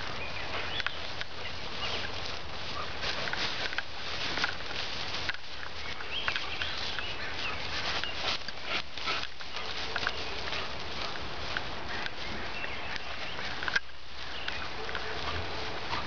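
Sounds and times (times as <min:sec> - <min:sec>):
long grass rustling: 0:00.0 - 0:16.0
small crackles and knocks: 0:00.0 - 0:16.0.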